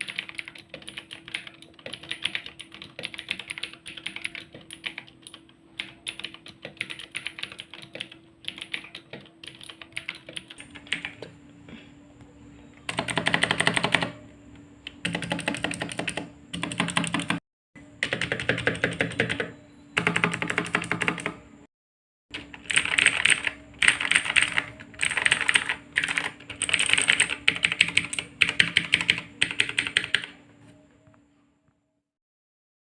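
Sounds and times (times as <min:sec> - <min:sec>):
mechanical keyboard typing: 0:00.0 - 0:11.3, 0:12.9 - 0:14.2, 0:14.9 - 0:17.4, 0:18.0 - 0:21.5, 0:22.3 - 0:30.4.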